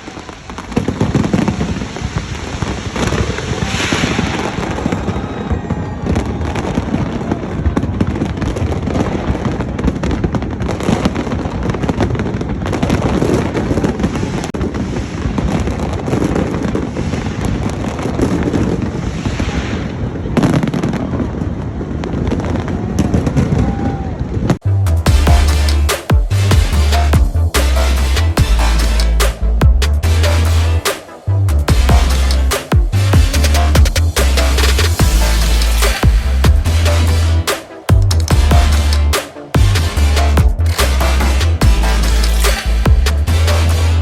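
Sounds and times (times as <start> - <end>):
fireworks bangs and crackle: 0.0 - 44.0.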